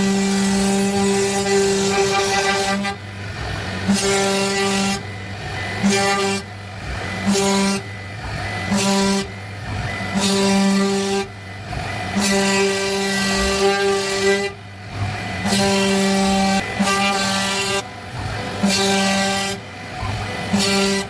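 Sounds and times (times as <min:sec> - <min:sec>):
wood router horn-like tone: 0:00.0 - 0:21.0.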